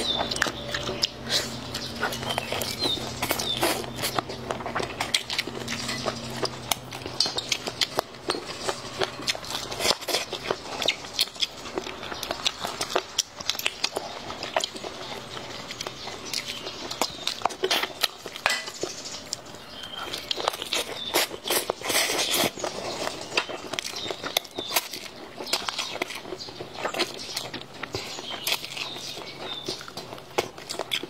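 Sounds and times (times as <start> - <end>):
low steady hum: 0.0 - 30.9
person biting and chewing: 0.0 - 31.0.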